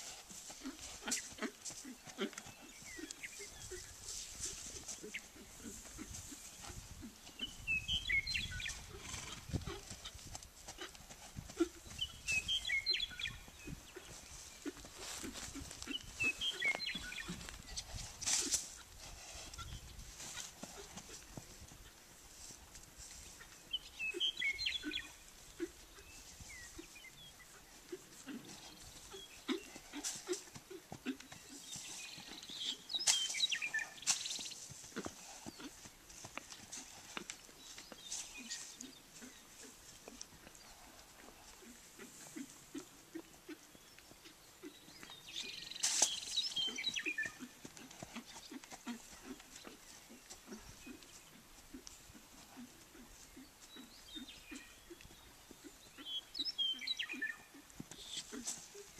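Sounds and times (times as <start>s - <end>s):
horse hoofbeats on dirt: 0.0s - 58.9s
small birds chirping: 0.0s - 58.9s.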